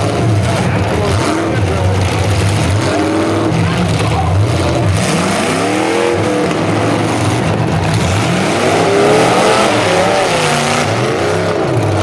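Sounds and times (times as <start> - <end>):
car engines running loud: 0.0 - 12.0
engines revving: 0.0 - 12.0.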